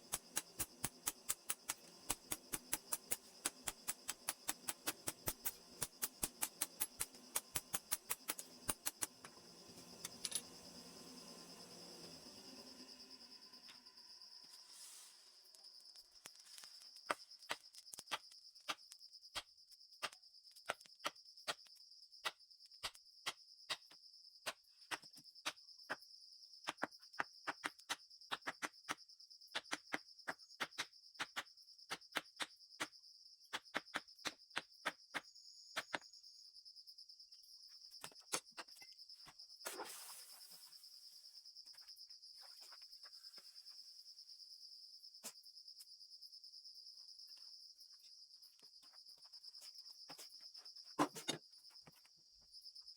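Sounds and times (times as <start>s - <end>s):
crickets chirring: 0.0s - 52.9s.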